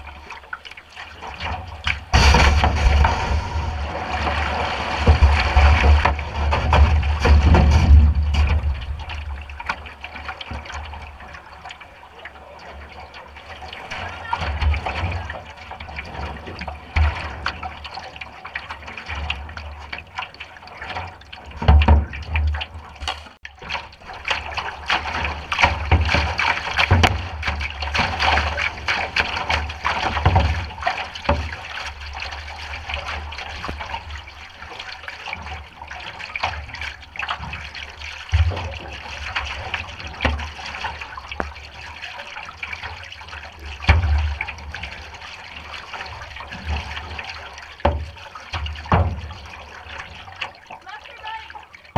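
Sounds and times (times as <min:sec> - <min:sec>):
river water rushing along hull: 0:00.0 - 0:51.9
low thumps on hull: 0:01.2 - 0:51.9.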